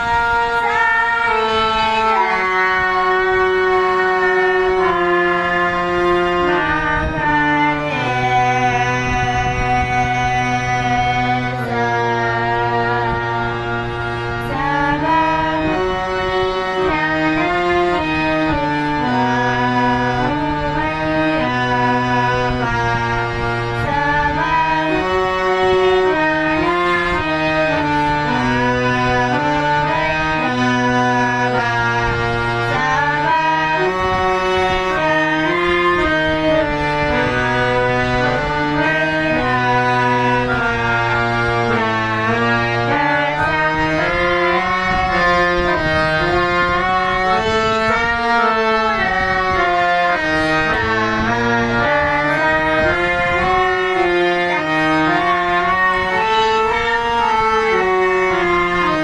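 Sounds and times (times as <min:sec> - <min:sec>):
instrumental music: 0:00.0 - 0:59.0.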